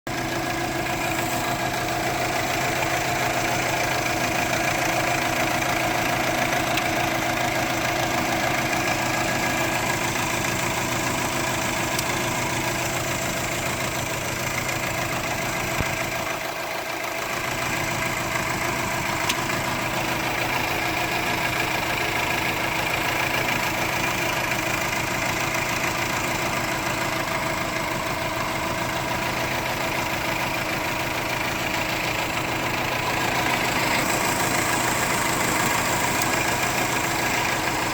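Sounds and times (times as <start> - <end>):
car engine idling with misfire: 0.1 - 37.9.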